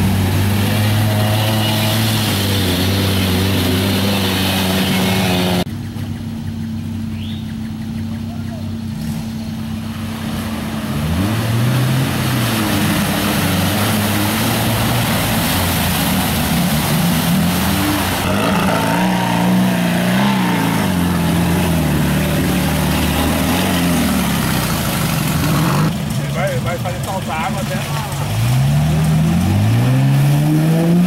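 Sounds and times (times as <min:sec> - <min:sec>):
water and mud churning: 0:00.0 - 0:05.7, 0:08.7 - 0:31.0
off-road engines revving: 0:00.0 - 0:31.0.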